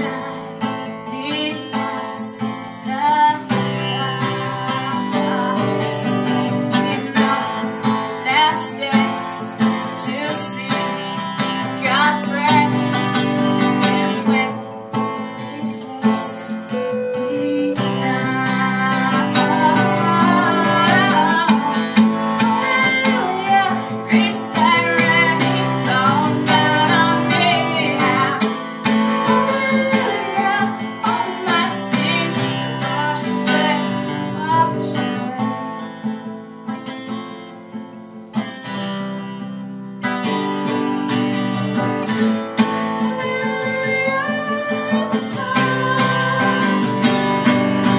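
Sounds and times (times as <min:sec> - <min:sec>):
woman singing: 0:00.0 - 0:36.4, 0:41.8 - 0:47.9
strummed acoustic guitar: 0:00.0 - 0:47.9.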